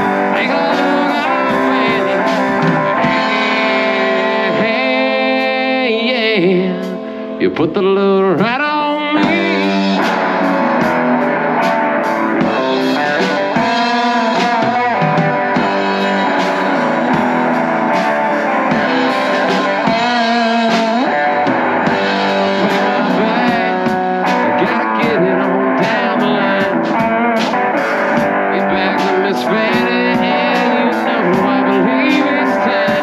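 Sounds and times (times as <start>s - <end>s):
drum beat with cymbals: 0.0s - 5.5s, 9.2s - 33.0s
electric guitar lead: 0.0s - 33.0s.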